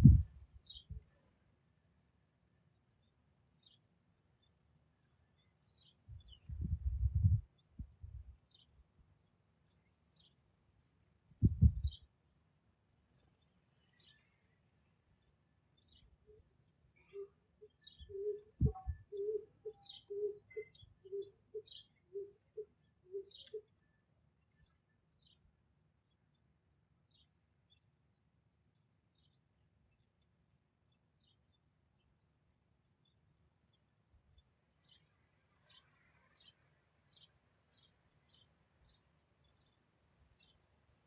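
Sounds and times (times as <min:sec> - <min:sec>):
small birds chirping: 0:00.0 - 0:02.0, 0:02.6 - 0:41.0.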